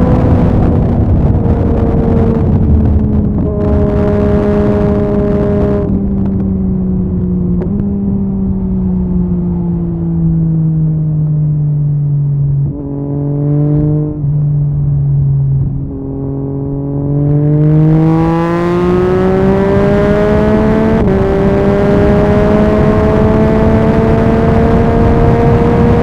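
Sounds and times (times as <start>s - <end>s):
motorcycle engine revving: 0.0s - 26.0s
wind noise: 0.0s - 26.0s.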